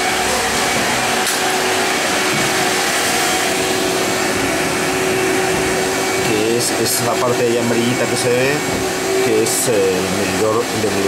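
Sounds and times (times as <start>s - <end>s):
constant motor hum: 0.0s - 11.0s.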